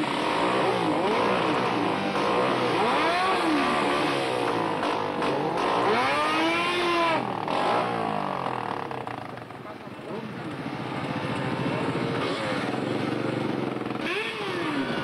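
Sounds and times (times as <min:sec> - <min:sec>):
second engine revving: 0:00.0 - 0:09.3, 0:11.1 - 0:15.0
motorcycle engine revving: 0:00.0 - 0:15.0.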